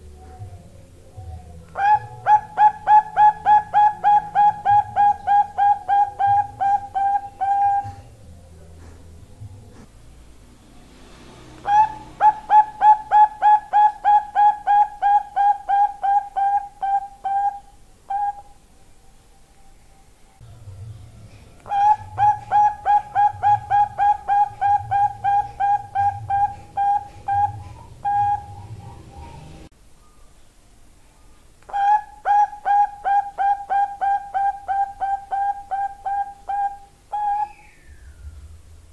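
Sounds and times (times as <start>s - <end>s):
dove cooing: 0.0s - 9.9s, 11.6s - 18.6s, 21.0s - 29.7s, 31.7s - 38.2s.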